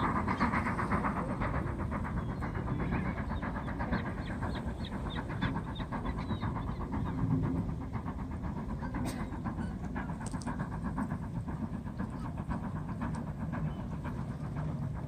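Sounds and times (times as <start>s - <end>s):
train clattering past: 0.0s - 15.0s.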